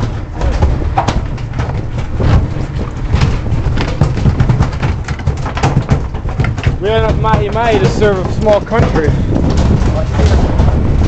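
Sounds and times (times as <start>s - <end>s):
wind and boat rumble: 0.0s - 11.0s.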